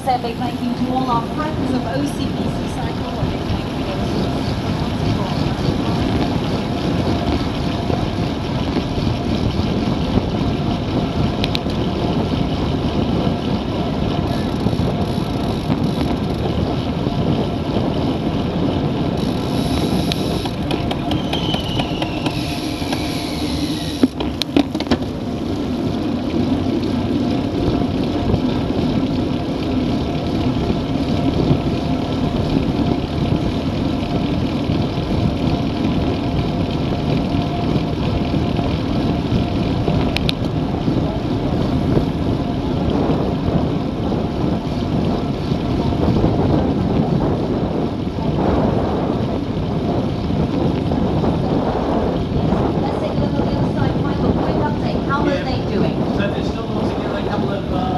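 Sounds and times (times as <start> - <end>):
tyre-on-road noise: 0.0 - 57.9
wind rush on microphone: 0.0 - 57.9.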